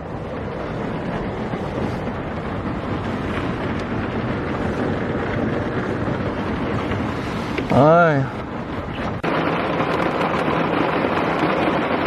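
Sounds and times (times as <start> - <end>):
heavy rain pelting a roof: 0.0 - 12.0.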